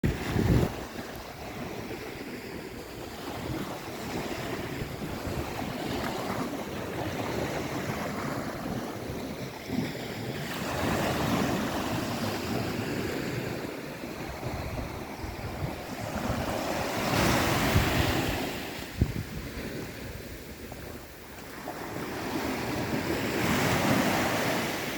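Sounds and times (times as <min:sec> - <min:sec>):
ocean surf on shore: 0:00.0 - 0:24.9
wind buffeting microphone: 0:00.0 - 0:24.9.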